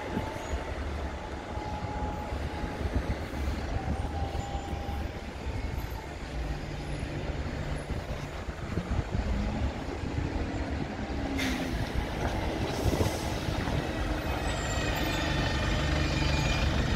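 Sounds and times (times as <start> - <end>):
large vehicle rumbling: 0.0 - 16.9.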